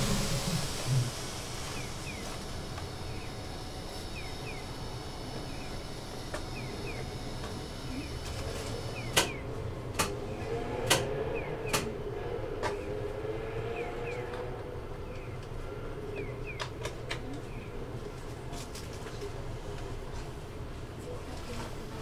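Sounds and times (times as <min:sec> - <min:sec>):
tram equipment humming: 0:00.0 - 0:22.0.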